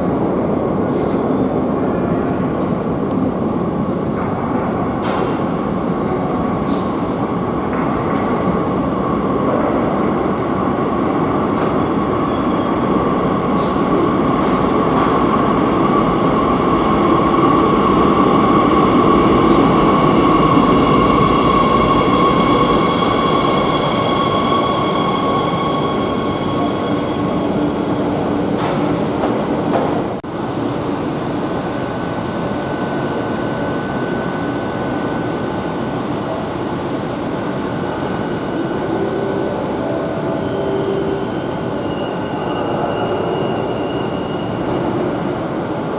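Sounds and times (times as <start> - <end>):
metro train running on rails: 0.0 - 45.9.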